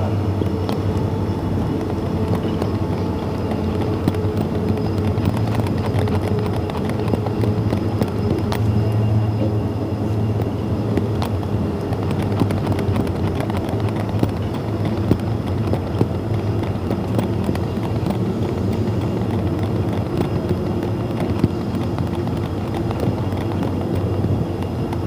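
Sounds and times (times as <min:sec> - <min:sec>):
train engine low drone: 0:00.0 - 0:25.0
wheels clicking on track: 0:00.0 - 0:25.0.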